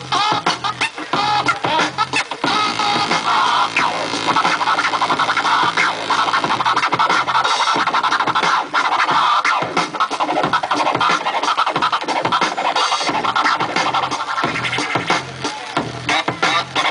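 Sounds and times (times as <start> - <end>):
hip hop beat: 0.0 - 16.9
vinyl scratching: 0.0 - 16.9.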